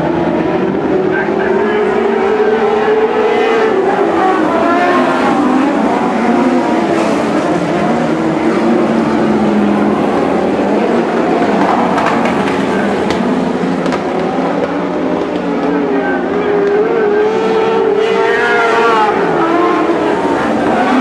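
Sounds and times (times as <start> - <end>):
race car engines running: 0.0 - 21.0.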